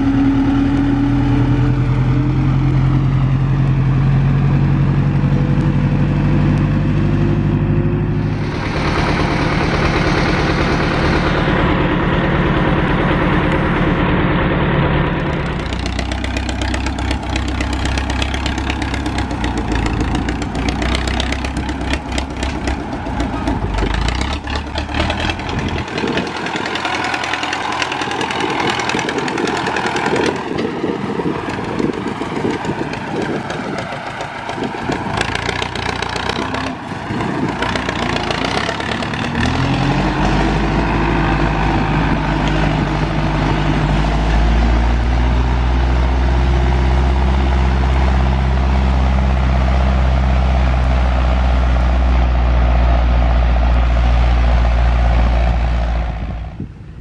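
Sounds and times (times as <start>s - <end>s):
tractor diesel engine revving: 0.0s - 57.0s.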